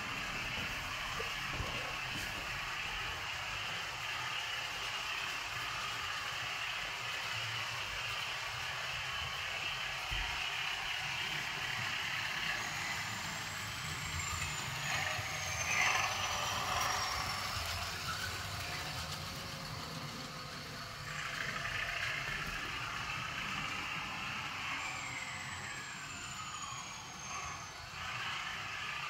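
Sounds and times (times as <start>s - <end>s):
model diesel engine sound: 0.0s - 29.0s
model train rumbling on track: 0.0s - 29.0s.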